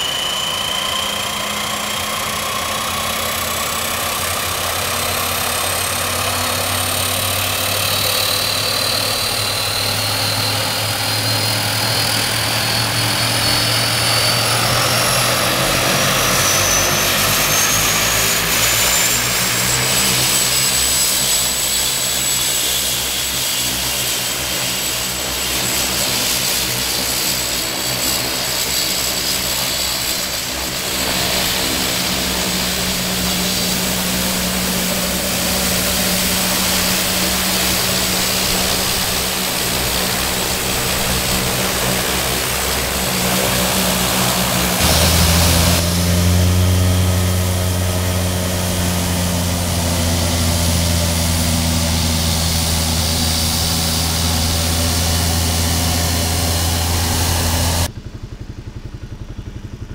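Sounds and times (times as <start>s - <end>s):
engine and propeller drone: 0.0s - 59.9s
turboprop engine whine: 0.0s - 59.9s.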